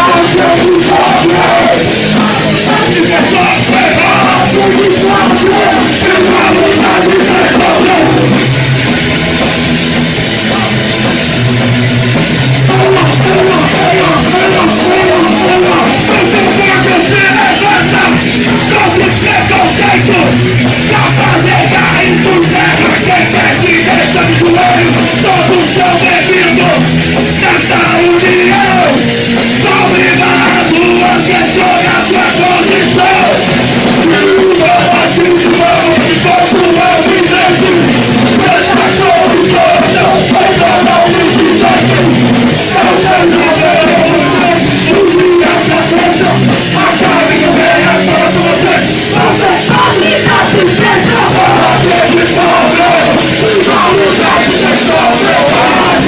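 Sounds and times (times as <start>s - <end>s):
shouted vocals: 0.0s - 8.5s, 12.5s - 56.0s
punk rock band playing live: 0.0s - 56.0s.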